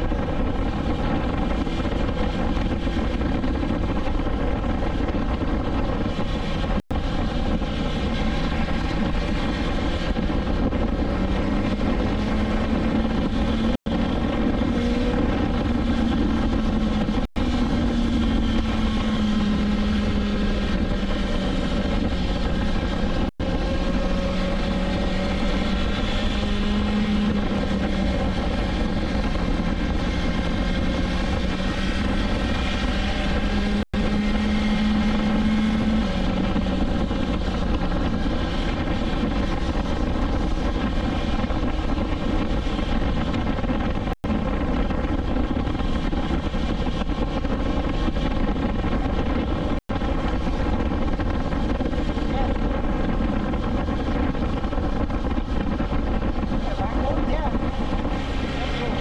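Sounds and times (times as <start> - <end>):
low wind rumble: 0.0 - 59.0
motorcycle engine running: 0.0 - 59.0.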